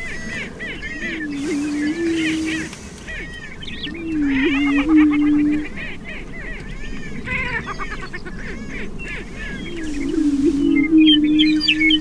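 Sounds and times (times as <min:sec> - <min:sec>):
birds cackling and whooping: 0:00.0 - 0:12.0.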